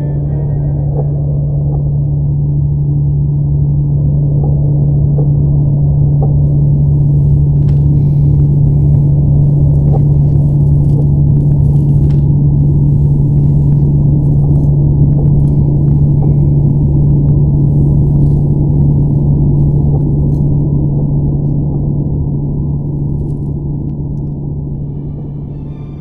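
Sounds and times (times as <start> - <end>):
low muffled drone: 0.0 - 26.0.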